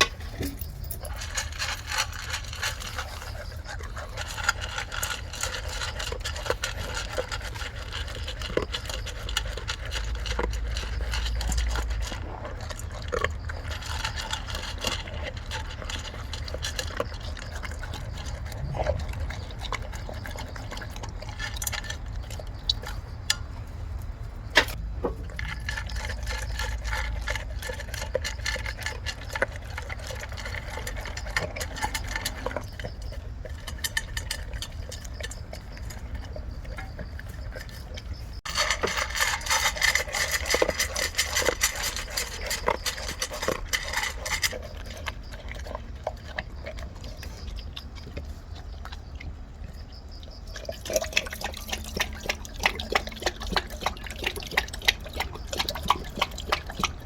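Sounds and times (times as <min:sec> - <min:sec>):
dog lapping water: 0:00.0 - 0:23.0, 0:25.3 - 0:57.0.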